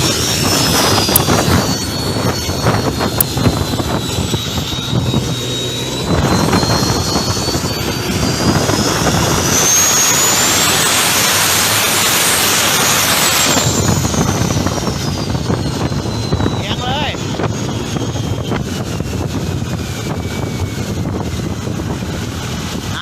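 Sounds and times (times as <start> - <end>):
high turbo whistle: 0.0 - 22.9
boat diesel engine running hard: 0.0 - 23.0.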